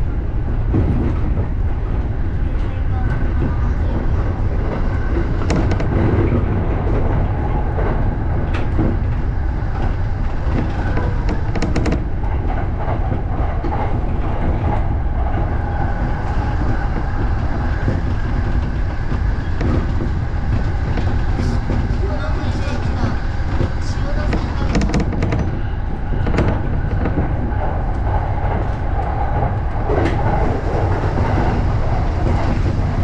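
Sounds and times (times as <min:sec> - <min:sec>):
train rumble from inside: 0:00.0 - 0:33.0
wheels clicking over rail joints: 0:02.6 - 0:33.0.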